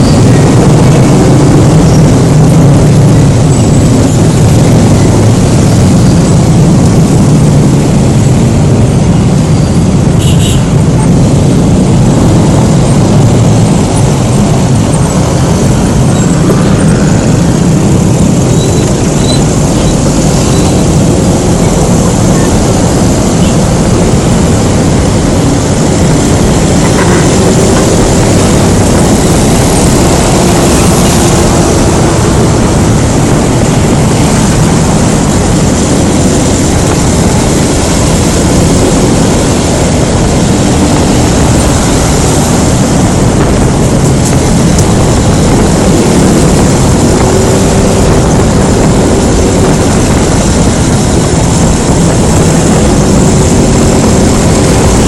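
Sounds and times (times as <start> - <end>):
road noise: 0.0 - 55.0
scooter engine: 0.0 - 55.0
wind rumble on microphone: 0.0 - 55.0.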